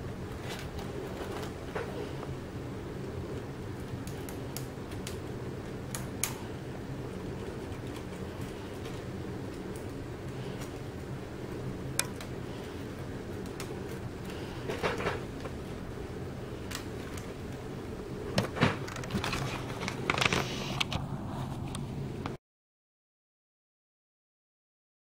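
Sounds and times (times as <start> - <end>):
steady background hum: 0.0 - 22.4.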